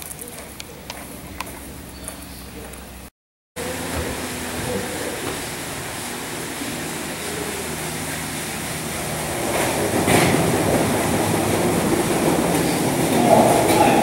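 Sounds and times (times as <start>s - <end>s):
water wheel machinery rumbling: 0.0s - 14.0s.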